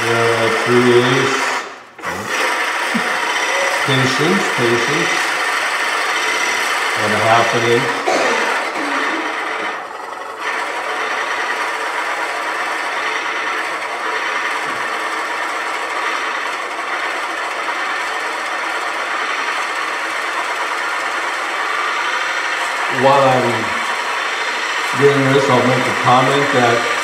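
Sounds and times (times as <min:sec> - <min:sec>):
drill bit boring into wood: 0:00.0 - 0:27.0.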